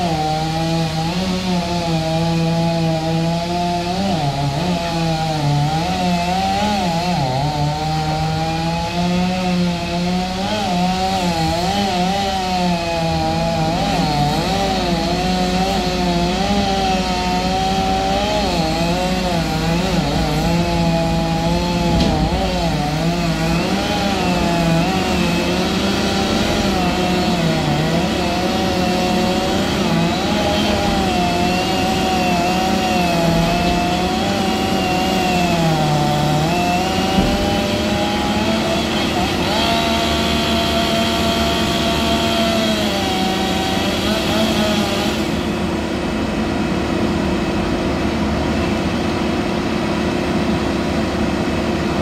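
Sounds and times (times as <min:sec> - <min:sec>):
chainsaw cutting through wood: 0:00.0 - 0:52.0
engine droning: 0:07.1 - 0:52.0.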